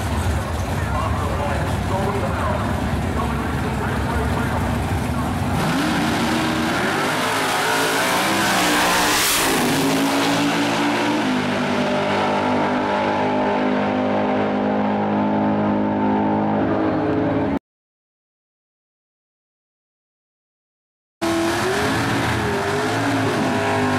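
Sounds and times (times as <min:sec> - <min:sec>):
drag car engines at full throttle: 0:00.0 - 0:17.6, 0:21.2 - 0:23.9.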